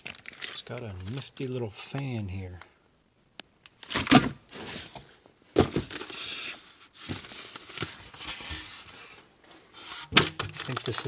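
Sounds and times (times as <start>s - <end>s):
rustling and crinkling: 0.0s - 2.7s, 3.6s - 11.0s.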